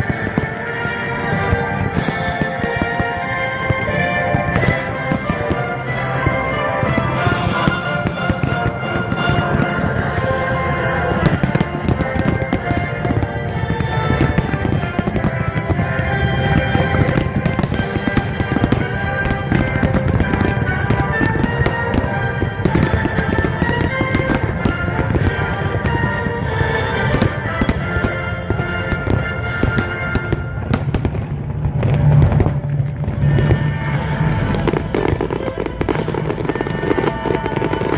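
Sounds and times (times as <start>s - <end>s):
fireworks exploding and crackling: 0.0s - 37.9s
music playing: 0.0s - 37.9s.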